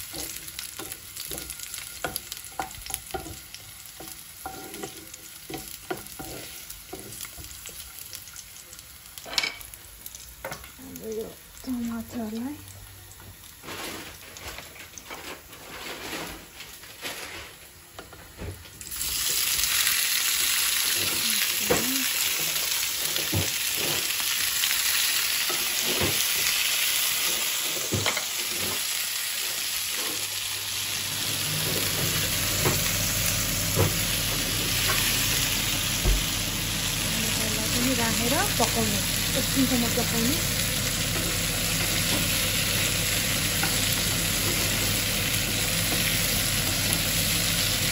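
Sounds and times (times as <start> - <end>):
tomatoes sizzling in hot oil: 0.0 - 15.5, 17.7 - 47.9.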